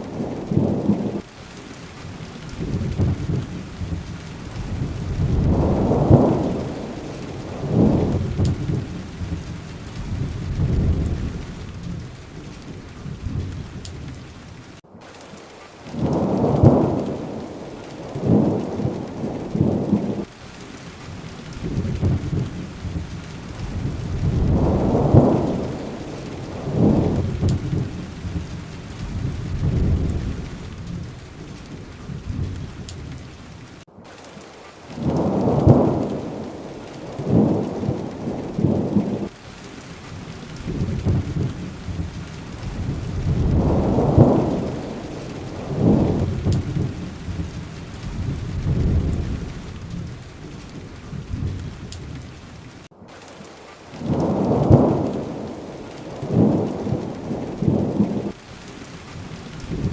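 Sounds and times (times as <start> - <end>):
steady rain: 0.0 - 59.9
thunder rumbling: 0.0 - 59.9.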